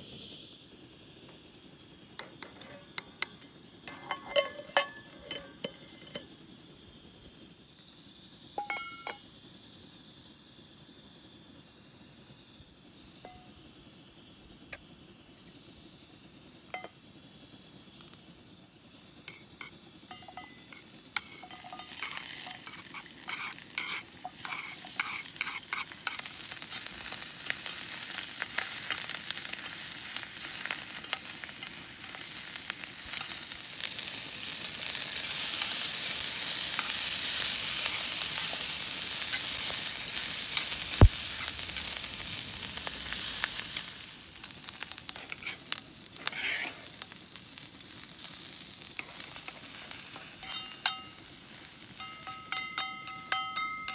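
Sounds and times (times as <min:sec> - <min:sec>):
food frying in a hot pan: 0:00.0 - 0:53.9.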